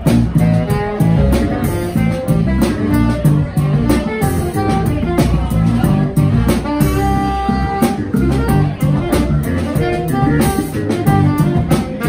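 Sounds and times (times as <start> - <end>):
drum kit: 0.0 - 12.0
electric bass line: 0.0 - 12.0
saxophone melody: 0.0 - 12.0.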